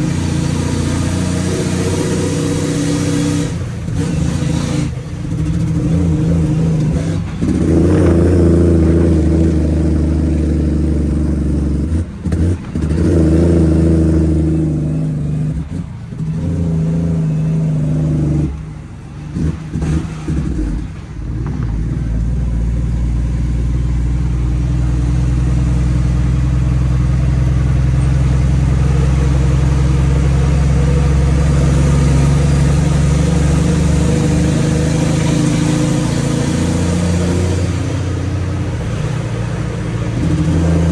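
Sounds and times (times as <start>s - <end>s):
diesel engine droning under load: 0.0s - 40.9s.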